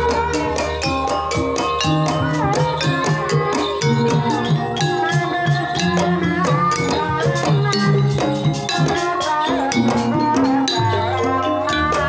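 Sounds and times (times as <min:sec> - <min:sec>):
kendang drums: 0:00.0 - 0:12.0
woman singing wavering line: 0:00.0 - 0:12.0.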